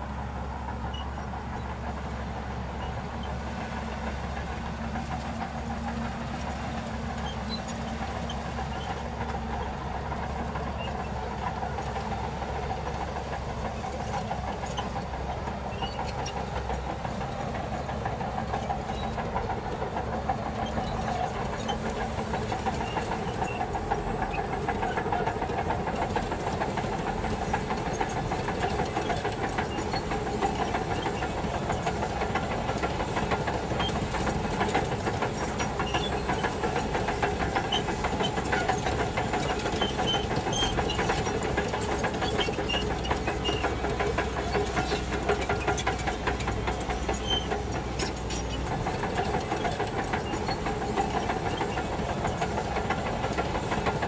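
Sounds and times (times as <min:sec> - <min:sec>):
bulldozer engine under load: 0:00.0 - 0:54.0
clicks from tracks: 0:02.8 - 0:54.0.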